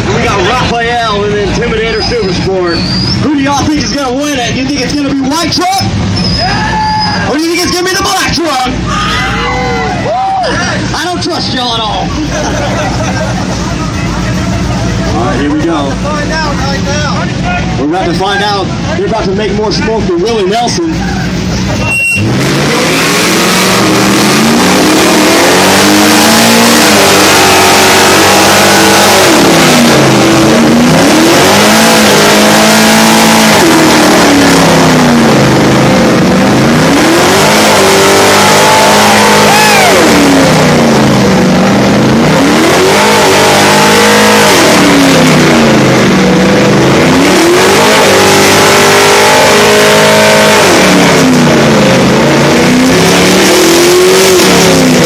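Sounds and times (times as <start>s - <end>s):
truck engines revving hard: 0.0s - 55.0s.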